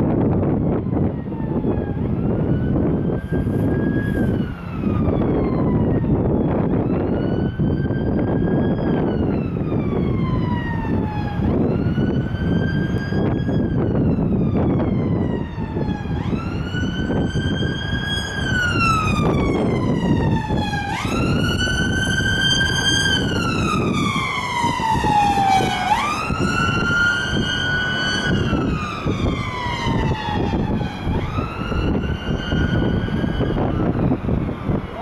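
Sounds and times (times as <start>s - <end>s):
ambulance siren wailing: 0.0s - 35.0s
traffic noise: 0.0s - 35.0s
wind on microphone: 0.0s - 35.0s.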